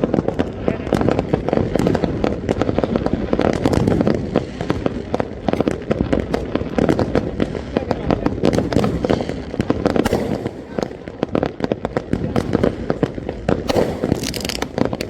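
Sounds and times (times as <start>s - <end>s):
fireworks cracks and bangs: 0.0s - 15.0s.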